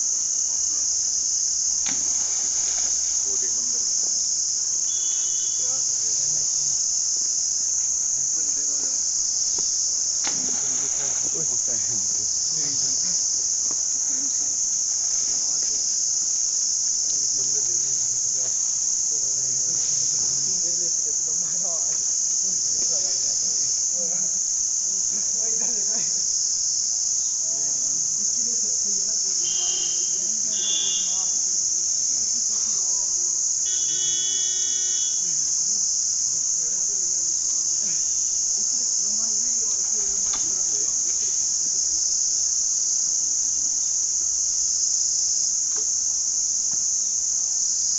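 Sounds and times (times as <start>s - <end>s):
insects buzzing: 0.0s - 47.9s.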